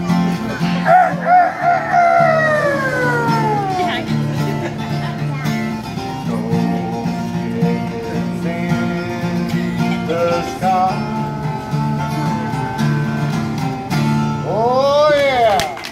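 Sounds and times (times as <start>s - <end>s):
harmonica melody: 0.0s - 14.8s
acoustic guitar strumming: 0.0s - 15.9s.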